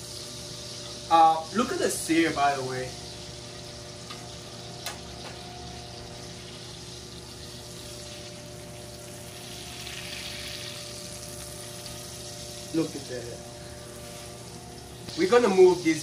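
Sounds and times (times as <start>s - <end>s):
steak sizzling in a pan: 0.0s - 16.0s.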